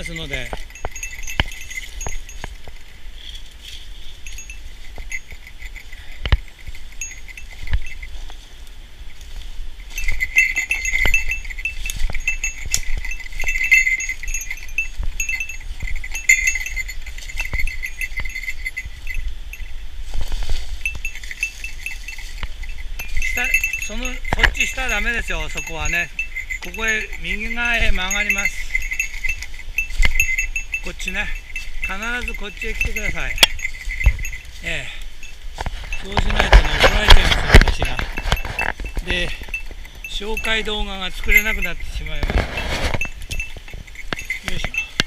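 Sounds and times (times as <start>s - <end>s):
small bell jingling: 0.0s - 45.0s.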